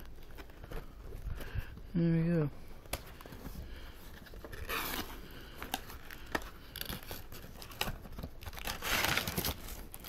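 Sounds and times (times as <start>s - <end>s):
packaging crinkling and rustling: 0.0s - 1.8s, 2.8s - 10.0s.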